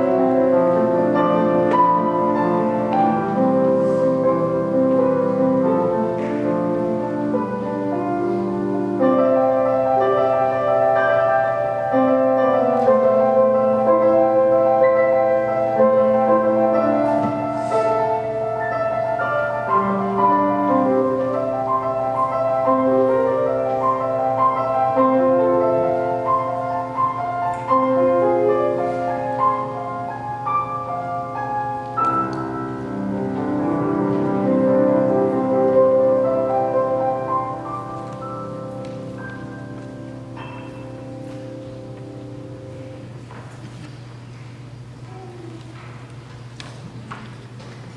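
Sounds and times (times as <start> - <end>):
solo grand piano: 0.0 - 47.9.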